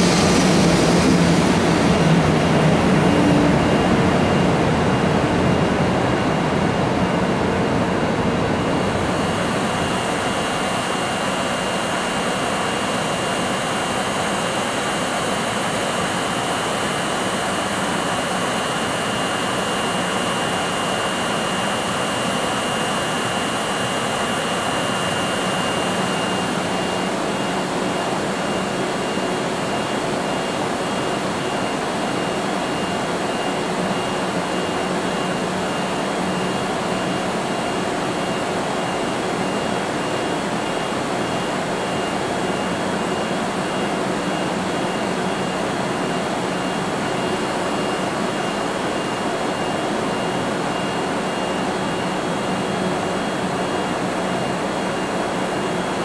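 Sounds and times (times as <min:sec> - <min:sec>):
locomotive cooling blowers roaring: 0:00.0 - 0:56.0
thin high whine: 0:00.0 - 0:56.0.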